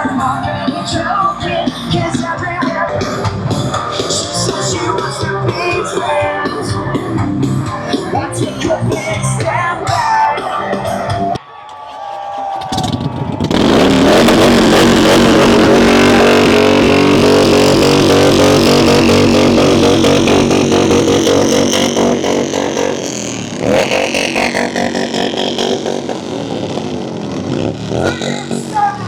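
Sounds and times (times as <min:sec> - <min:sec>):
motorcycle engines revving: 0:00.0 - 0:09.6, 0:12.0 - 0:29.0.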